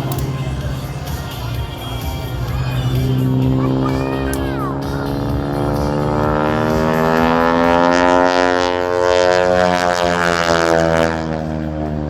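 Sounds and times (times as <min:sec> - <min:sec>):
biplane engine and propeller: 0:00.0 - 0:12.0.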